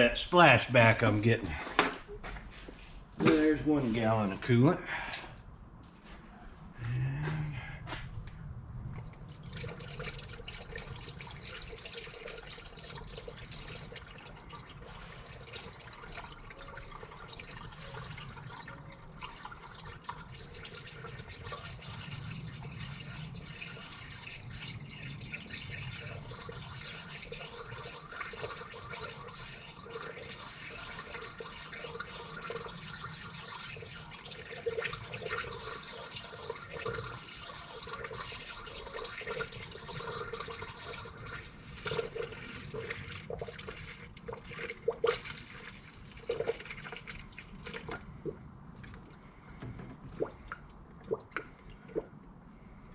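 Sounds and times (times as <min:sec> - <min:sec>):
liquid pouring and gurgling: 0:08.8 - 0:52.9.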